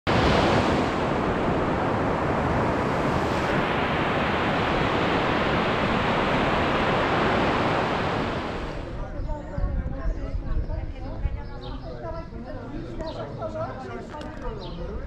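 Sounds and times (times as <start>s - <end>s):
wind buffeting microphone: 0.1s - 12.4s.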